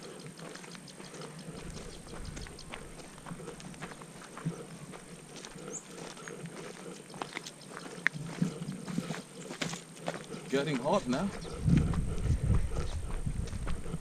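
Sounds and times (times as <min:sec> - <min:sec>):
footsteps crunching on dirt: 0:00.0 - 0:14.0.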